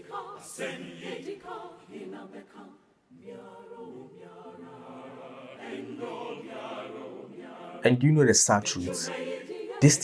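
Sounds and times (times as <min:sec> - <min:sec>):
choir singing held notes: 0:00.0 - 0:10.0.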